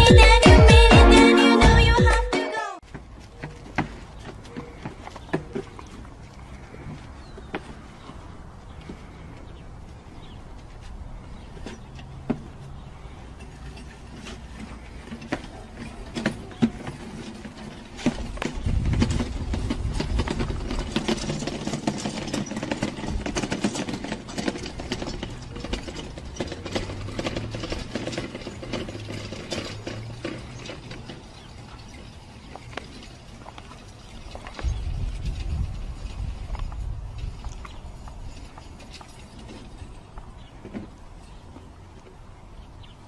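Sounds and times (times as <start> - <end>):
plastic cart rattling on dirt: 0.0 - 2.2, 2.8 - 43.0.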